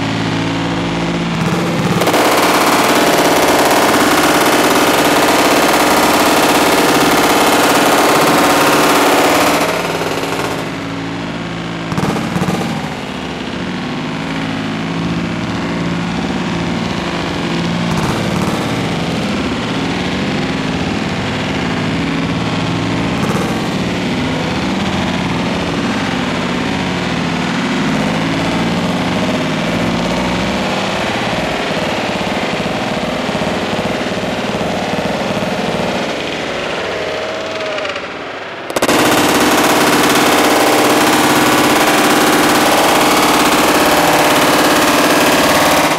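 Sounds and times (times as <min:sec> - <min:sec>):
machine-gun fire: 0:01.2 - 0:11.2, 0:11.8 - 0:13.8, 0:17.8 - 0:22.0, 0:23.0 - 0:45.9.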